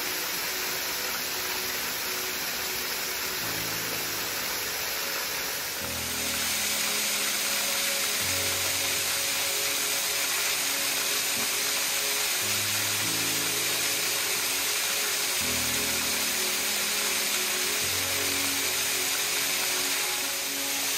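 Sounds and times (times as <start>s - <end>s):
soft background music: 0.0s - 20.9s
waterfall rushing: 0.0s - 20.9s.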